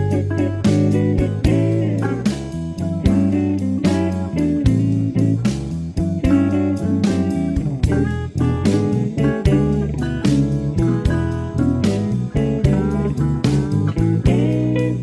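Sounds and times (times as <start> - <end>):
bass line: 0.0 - 15.0
guitar-led instrumental music: 0.0 - 15.0.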